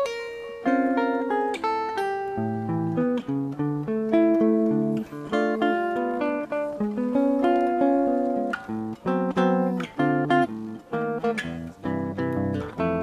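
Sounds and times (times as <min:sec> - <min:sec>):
guitar plucking cluster chords: 0:00.0 - 0:13.0.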